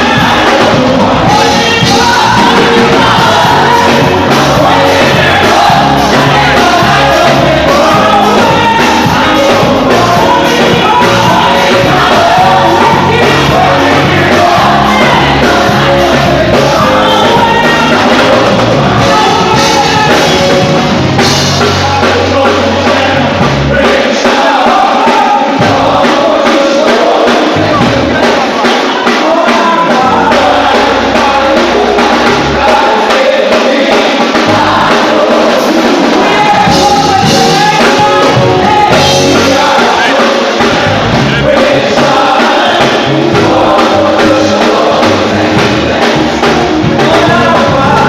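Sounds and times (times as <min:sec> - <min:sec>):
gospel band playing: 0:00.0 - 0:48.0
voices singing: 0:00.0 - 0:48.0.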